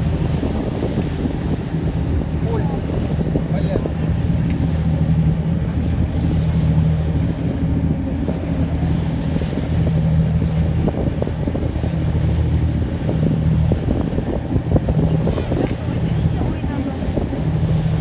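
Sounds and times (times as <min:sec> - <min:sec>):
boat engine droning: 0:00.0 - 0:18.0
wind rumbling on microphone: 0:00.0 - 0:18.0.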